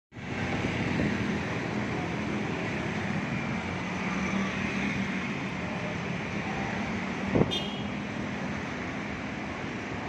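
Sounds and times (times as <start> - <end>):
street traffic noise: 0.1 - 10.0.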